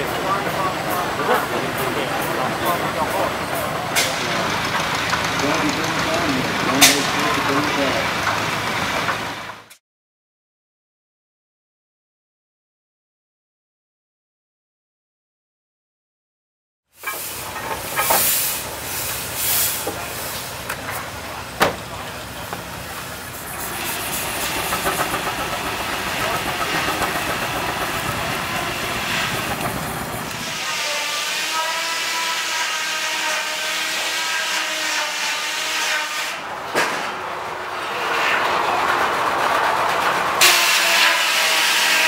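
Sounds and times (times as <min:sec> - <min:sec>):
steam engines hissing: 0:00.0 - 0:09.6, 0:17.0 - 0:42.0.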